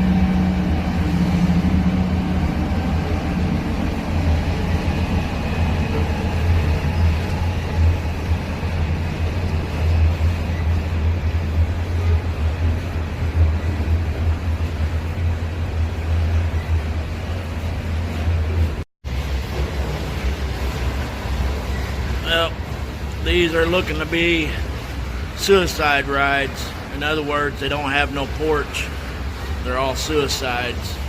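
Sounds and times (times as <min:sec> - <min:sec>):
diesel locomotives droning: 0:00.0 - 0:31.0
higher hum: 0:00.0 - 0:31.0.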